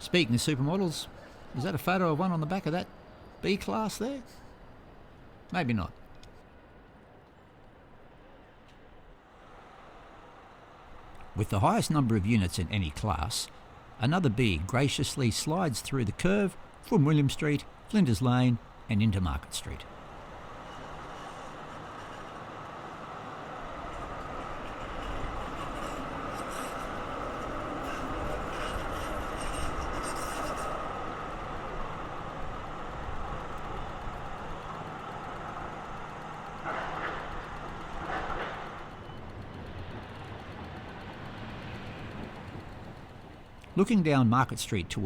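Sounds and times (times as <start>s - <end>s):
tram running on rails: 0.0s - 45.0s.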